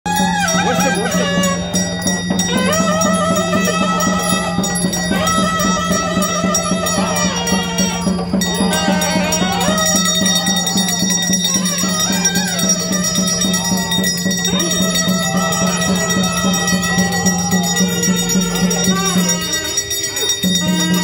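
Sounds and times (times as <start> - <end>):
regular drum beat: 0.1 - 21.0.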